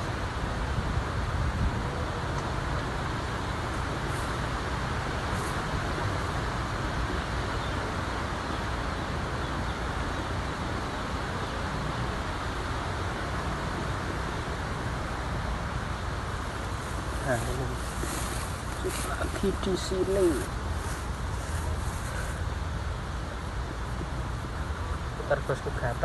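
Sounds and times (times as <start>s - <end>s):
strong wind on microphone: 0.0s - 25.2s.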